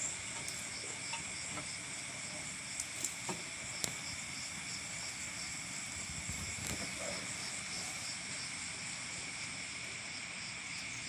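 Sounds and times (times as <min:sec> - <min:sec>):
crickets and insects chirping: 0:00.0 - 0:11.0.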